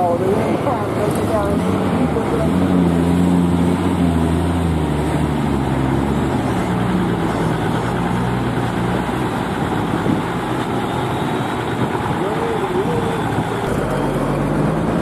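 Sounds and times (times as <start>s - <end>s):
diesel lorry engine rumbling: 0.0s - 15.0s.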